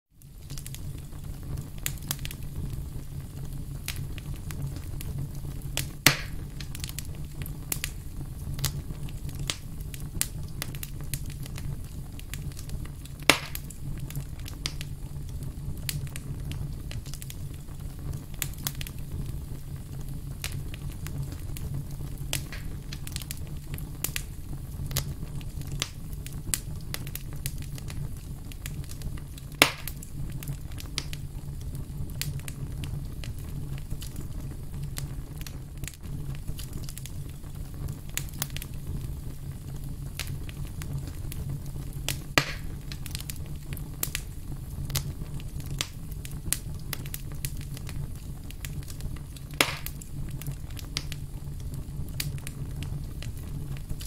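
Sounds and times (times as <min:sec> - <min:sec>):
campfire crackling: 0:00.2 - 0:54.0
campfire pops: 0:00.2 - 0:54.0.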